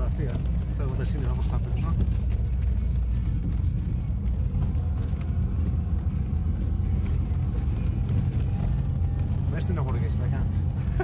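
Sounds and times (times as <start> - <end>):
off-road vehicle rumble: 0.0 - 11.0.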